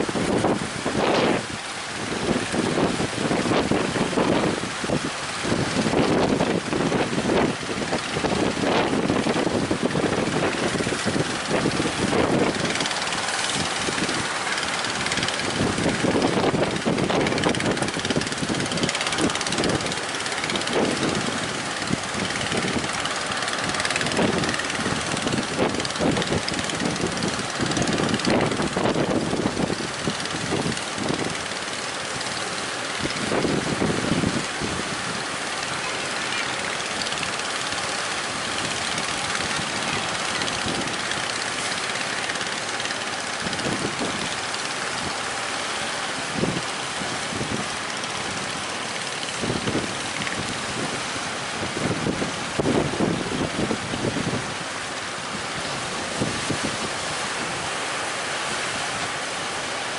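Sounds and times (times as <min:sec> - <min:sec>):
wind buffeting microphone: 0:00.0 - 0:59.4
outboard engine running: 0:00.0 - 0:59.9.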